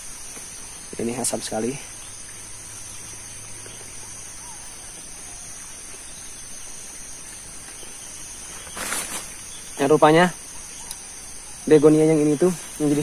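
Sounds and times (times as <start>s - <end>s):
shrill insect drone: 0.0s - 13.0s.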